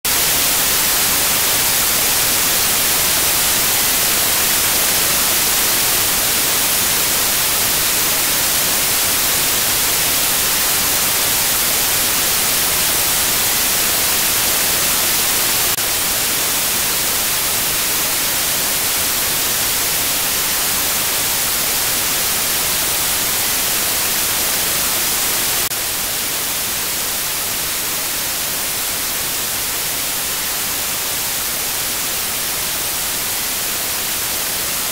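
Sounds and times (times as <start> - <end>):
white noise static hiss: 0.1 - 34.9.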